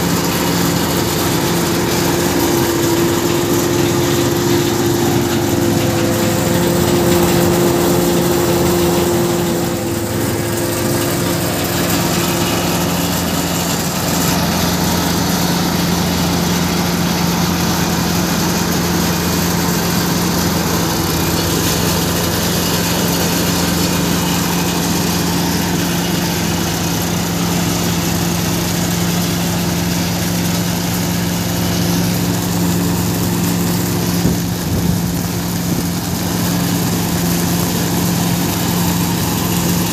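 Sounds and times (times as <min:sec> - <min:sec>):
blower rushing noise: 0:00.0 - 0:39.9
thresher machinery humming: 0:00.0 - 0:39.9.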